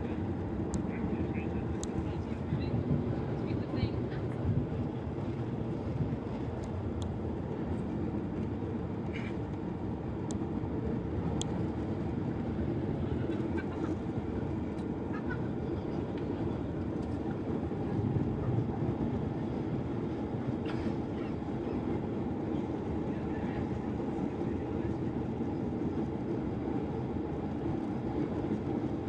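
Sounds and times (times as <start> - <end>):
jet engine and airflow rush: 0.0 - 29.0.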